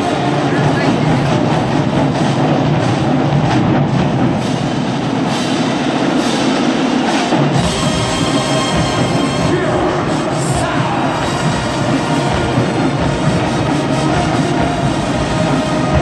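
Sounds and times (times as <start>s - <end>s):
drums: 0.0s - 16.0s
marching band playing: 0.0s - 16.0s.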